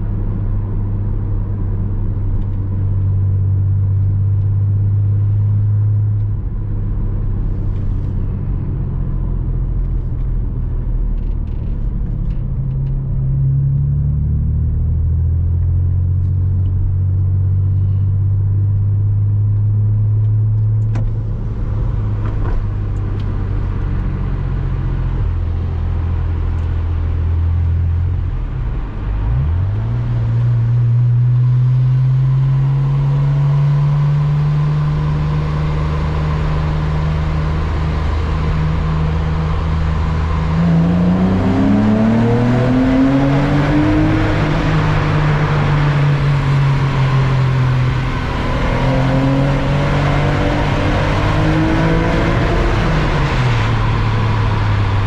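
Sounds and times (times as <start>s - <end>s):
tyre and road noise: 0.0s - 18.1s, 19.4s - 55.0s
car engine driving: 0.0s - 55.0s.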